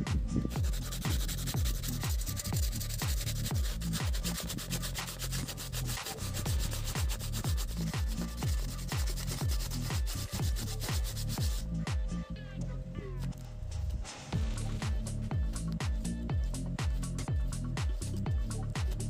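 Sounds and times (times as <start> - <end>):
background music with a beat: 0.0 - 19.0
sandpaper sanding wood: 0.5 - 11.6, 14.6 - 19.0.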